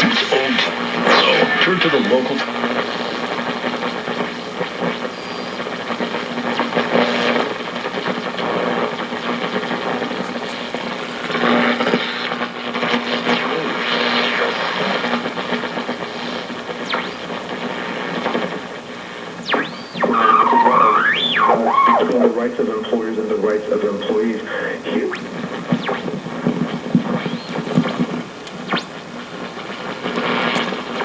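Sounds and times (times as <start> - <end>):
radio static hiss and buzzing: 0.0 - 31.0.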